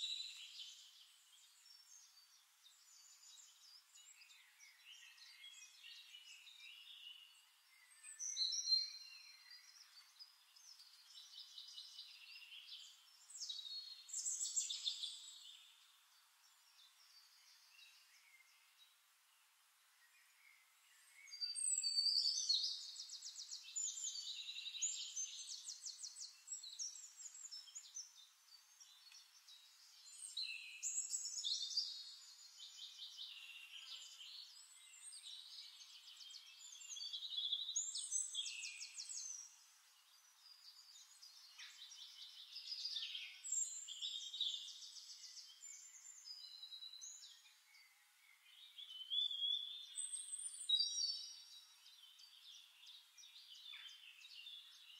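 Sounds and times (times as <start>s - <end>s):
birds singing: 0.0s - 54.9s.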